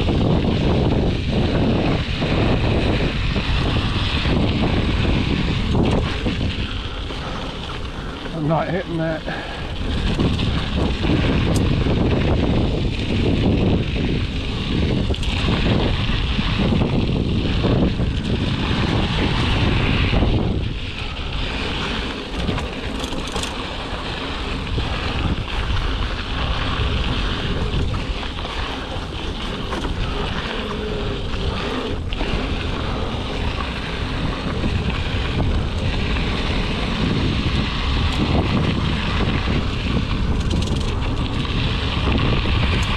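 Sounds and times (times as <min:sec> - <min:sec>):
bike clicking over bumps: 0:00.0 - 0:42.9
bike tyres crunching on gravel: 0:00.0 - 0:42.9
wind on microphone: 0:00.0 - 0:42.9.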